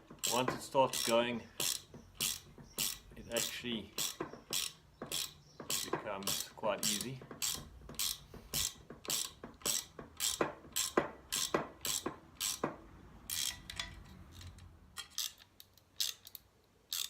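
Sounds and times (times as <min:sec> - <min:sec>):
spanner turning a nut clicking: 0:00.1 - 0:17.0.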